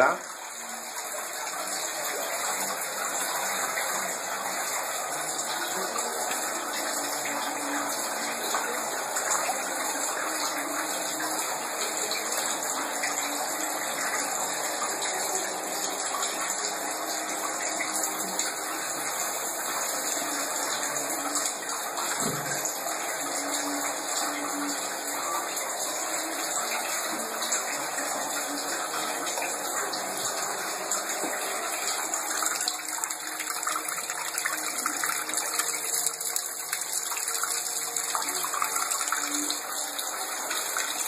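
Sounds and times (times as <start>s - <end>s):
tap water gushing into sink: 0.0s - 41.0s.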